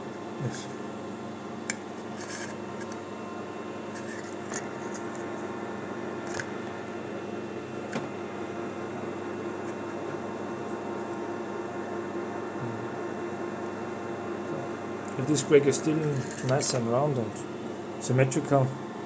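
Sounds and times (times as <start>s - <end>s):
lathe running hum: 0.0s - 19.0s.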